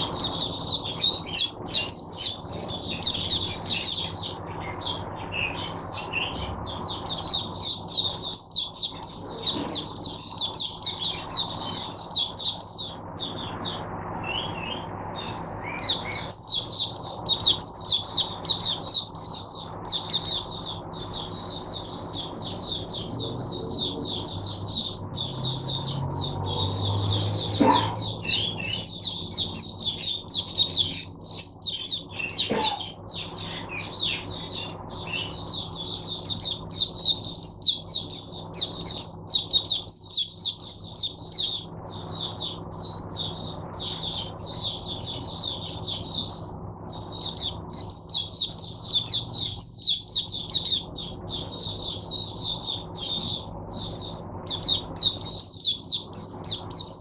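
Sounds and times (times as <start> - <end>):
bird twittering song: 0.0 - 57.0
faint low hum: 0.0 - 57.0.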